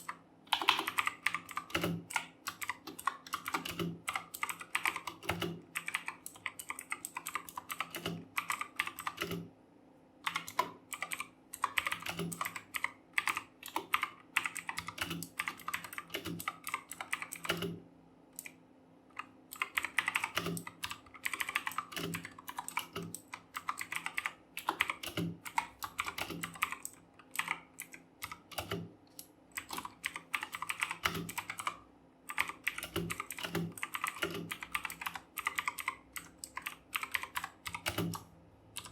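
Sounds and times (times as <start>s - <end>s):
mechanical keyboard typing: 0.0s - 9.5s, 10.2s - 17.8s, 18.4s - 38.9s.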